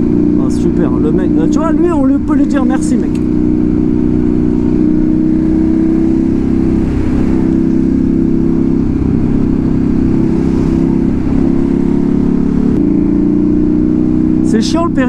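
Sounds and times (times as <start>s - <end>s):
low wind rumble: 0.0s - 14.7s
motorcycle engine cruising: 0.0s - 15.0s.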